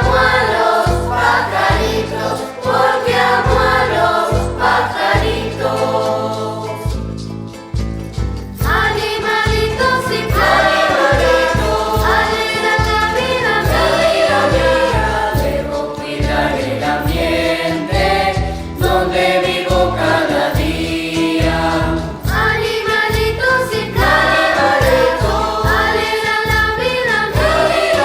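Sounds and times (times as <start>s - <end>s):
children's choir singing: 0.0s - 7.1s, 8.6s - 28.0s
instrumental accompaniment: 0.0s - 28.0s
rhythmic bass beat: 0.0s - 28.0s.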